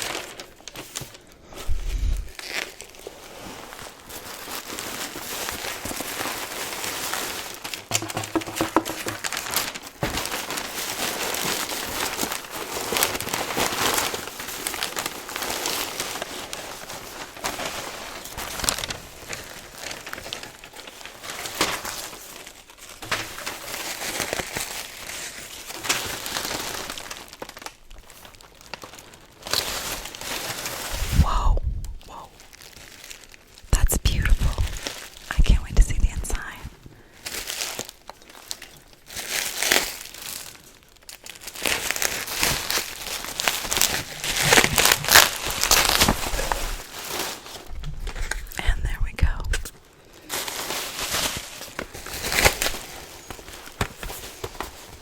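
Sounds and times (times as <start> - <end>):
packaging crinkling: 0.0 - 31.2, 32.0 - 35.3, 36.0 - 48.6, 49.3 - 55.0.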